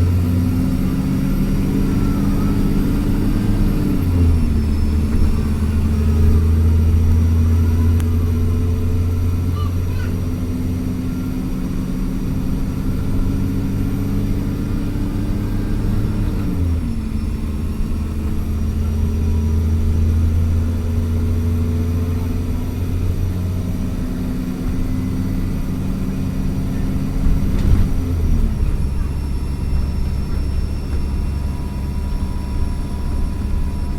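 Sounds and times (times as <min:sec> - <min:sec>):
bus diesel engine under load: 0:00.0 - 0:33.9.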